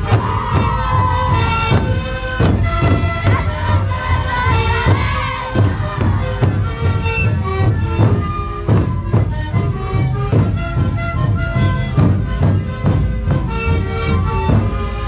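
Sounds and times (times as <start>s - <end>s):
bass drums beating: 0.0s - 15.0s
panpipes playing melody: 0.0s - 15.0s.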